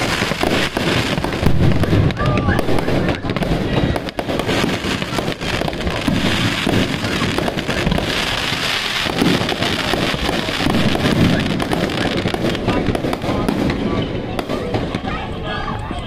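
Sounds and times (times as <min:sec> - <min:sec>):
fireworks crackling: 0:00.0 - 0:16.0
heavy low firework bursts: 0:00.0 - 0:16.0.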